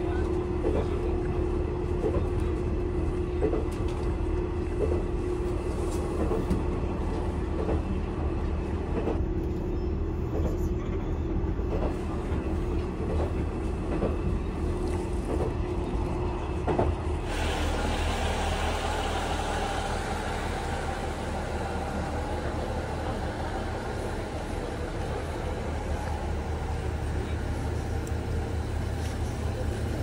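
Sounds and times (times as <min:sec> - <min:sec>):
train rumble and hum: 0:00.0 - 0:30.0.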